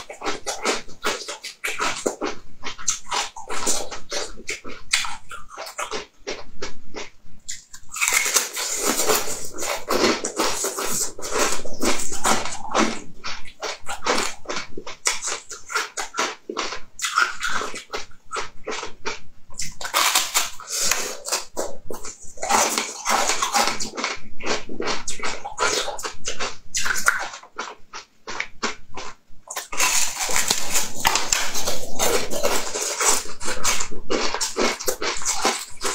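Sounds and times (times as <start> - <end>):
person crunching and chewing: 0.0 - 35.9.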